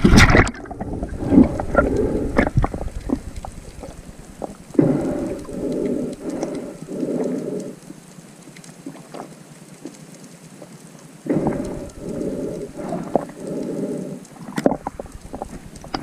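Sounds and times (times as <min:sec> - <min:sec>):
underwater water rushing: 0:00.0 - 0:16.0
faint clicks: 0:01.4 - 0:16.0.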